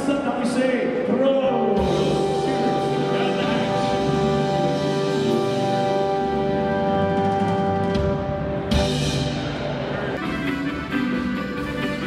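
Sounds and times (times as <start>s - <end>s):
folk band holding a chord: 1.8s - 12.0s.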